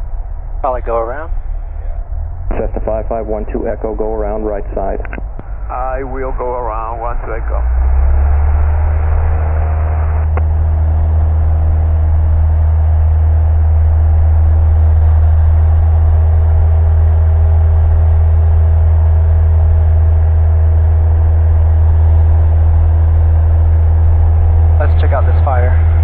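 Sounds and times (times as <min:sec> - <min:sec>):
piston aircraft engine droning: 0:00.0 - 0:26.0.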